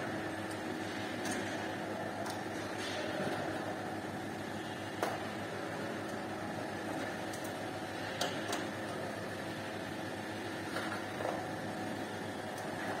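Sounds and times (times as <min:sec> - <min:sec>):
ventilation and machinery hum: 0:00.0 - 0:13.0.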